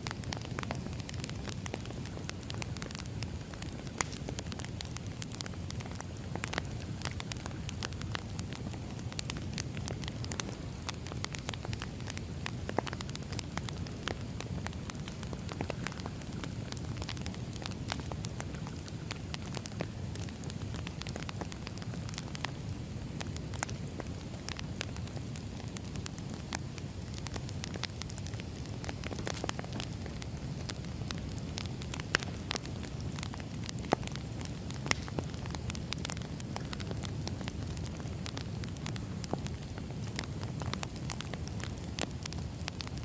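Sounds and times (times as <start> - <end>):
crackles and pops from logs: 0.0 - 43.0
wood fire burning: 0.0 - 43.0.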